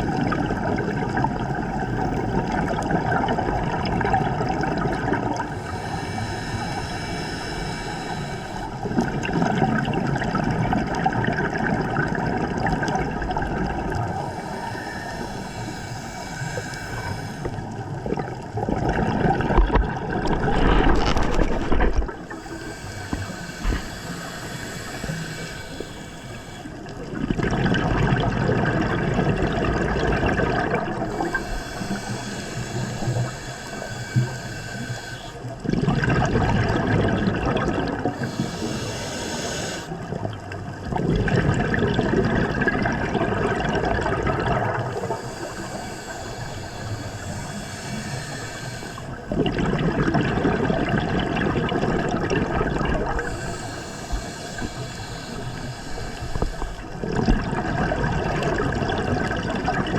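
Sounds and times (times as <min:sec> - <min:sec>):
bubbling exhaled air: 0:00.0 - 0:59.9
regulator hiss on inhale: 0:01.0 - 0:12.2, 0:12.9 - 0:18.3, 0:19.4 - 0:27.3, 0:28.6 - 0:35.7, 0:37.9 - 0:40.3, 0:42.1 - 0:50.4, 0:52.8 - 0:57.5, 0:58.3 - 0:59.9.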